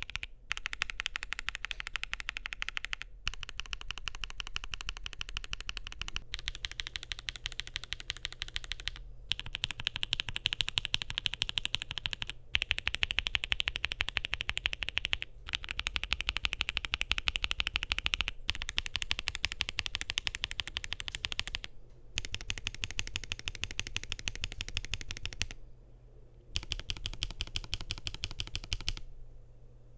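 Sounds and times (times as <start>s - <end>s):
fast mechanical keyboard typing: 0.0s - 25.6s, 26.6s - 29.0s.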